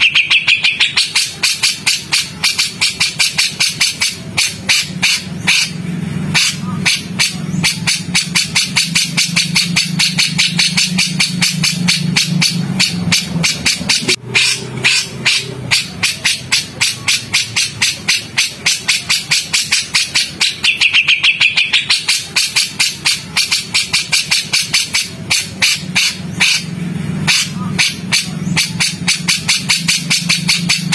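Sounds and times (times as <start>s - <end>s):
low hum: 0.0s - 30.9s
songbird calling harsh sharp notes: 0.0s - 30.9s.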